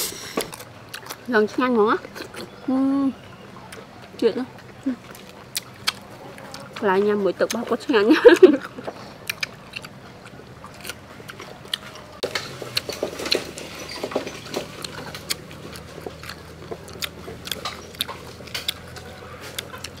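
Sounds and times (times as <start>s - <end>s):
people chewing crunchy food: 0.0s - 20.0s.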